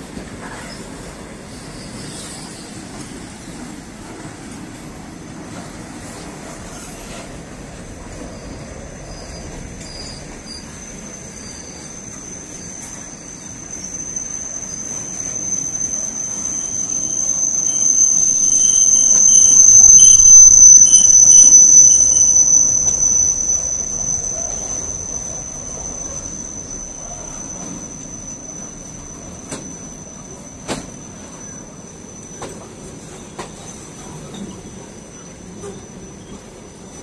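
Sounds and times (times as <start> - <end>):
freight train wheels rumbling: 0.0 - 37.0
high wheel squeal: 0.4 - 4.6, 5.5 - 37.0.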